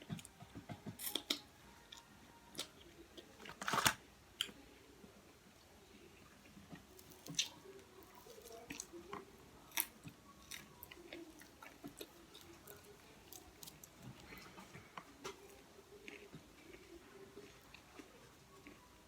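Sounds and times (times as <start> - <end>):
person chewing food: 0.0 - 4.5, 6.4 - 18.9.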